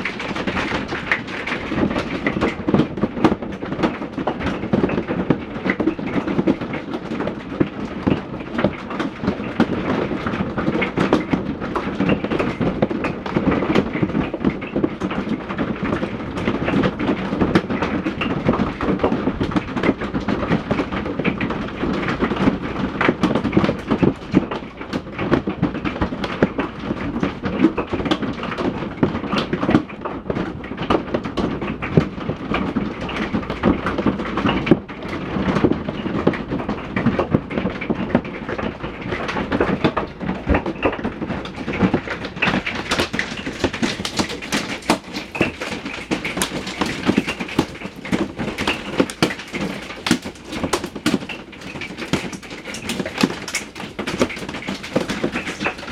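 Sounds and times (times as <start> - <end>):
hail striking hard surfaces: 0.0 - 55.9.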